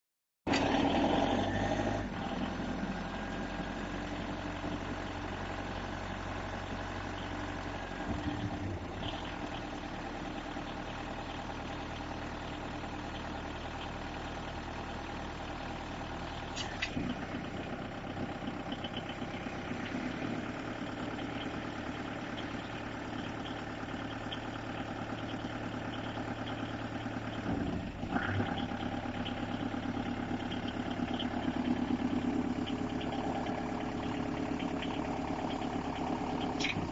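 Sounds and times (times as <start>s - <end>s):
forklift engine idling: 0.5s - 36.9s.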